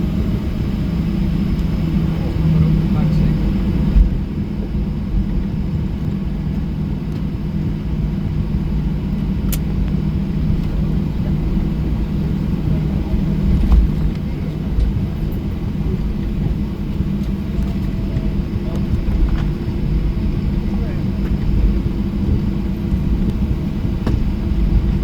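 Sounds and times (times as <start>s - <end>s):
airplane cabin rumble: 0.0s - 25.0s
low bump: 1.4s - 25.0s.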